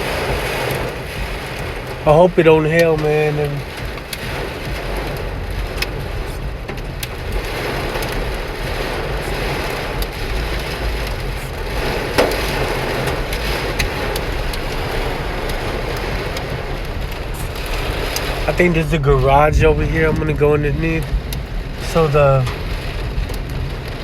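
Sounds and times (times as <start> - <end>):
car driving rumble: 0.0 - 24.0
hail striking car body: 0.0 - 24.0
heavy rain on a car: 0.0 - 24.0.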